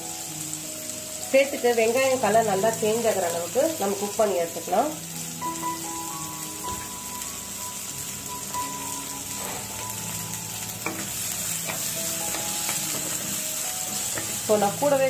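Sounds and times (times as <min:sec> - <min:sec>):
onion and garlic sizzling in a pan: 0:00.0 - 0:15.0.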